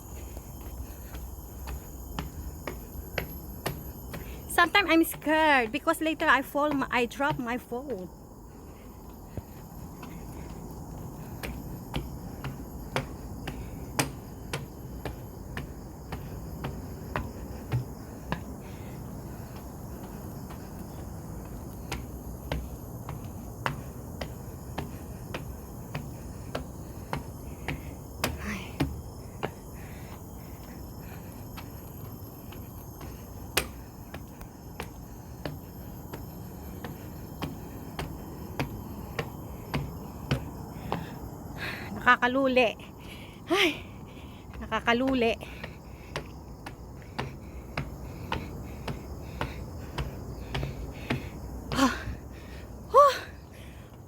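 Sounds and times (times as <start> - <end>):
footsteps climbing steps: 0.0 - 54.0
high insect drone: 0.0 - 54.0.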